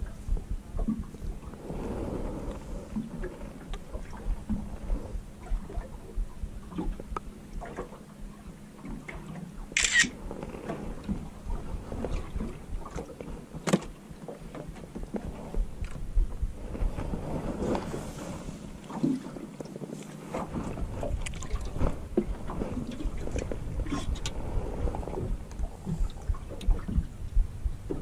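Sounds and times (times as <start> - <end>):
wind buffeting microphone: 0.0 - 9.4, 10.0 - 19.4, 20.2 - 28.0
small waves lapping against hull: 0.0 - 28.0.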